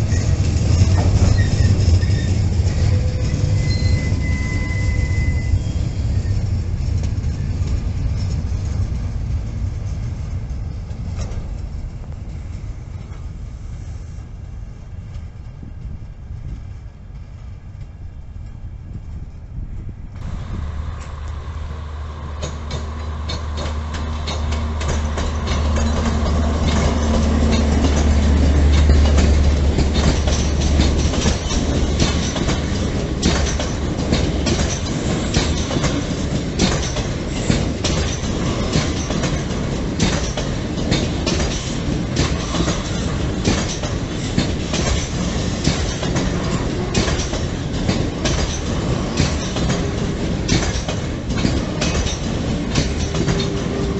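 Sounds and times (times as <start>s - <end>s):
train wheels clicking over rail joints: 0.0s - 14.2s, 20.2s - 53.9s
locomotive engine hum: 0.0s - 53.9s.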